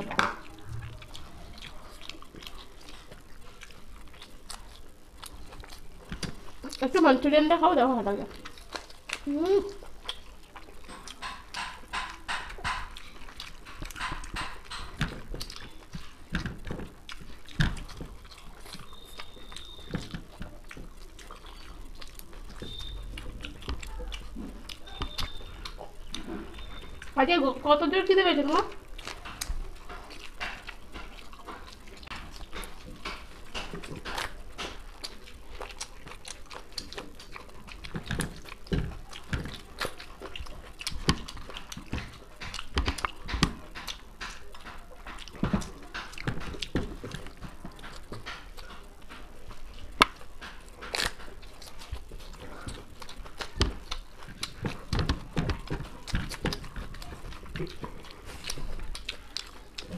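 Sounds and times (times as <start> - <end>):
wet chewing and lip-smacking: 0.0 - 59.9.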